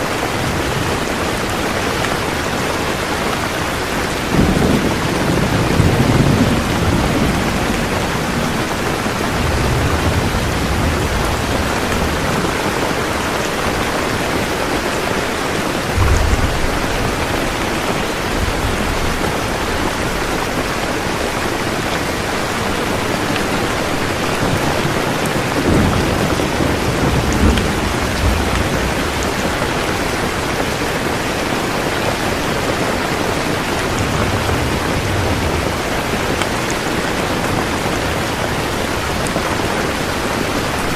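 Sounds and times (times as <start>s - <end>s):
steady rain falling: 0.0s - 40.9s
thunder rumbling: 0.2s - 40.9s.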